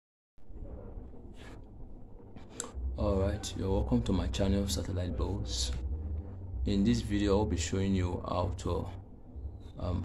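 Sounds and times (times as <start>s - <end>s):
low hum: 0.4s - 10.0s.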